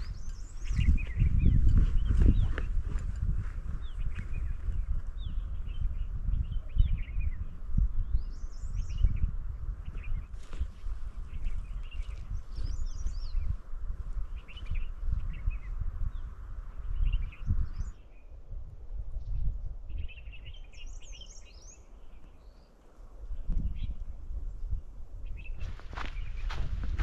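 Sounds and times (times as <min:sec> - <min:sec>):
birds chirping and calling: 0:00.0 - 0:18.4, 0:19.2 - 0:27.0
wind buffeting microphone: 0:00.0 - 0:27.0.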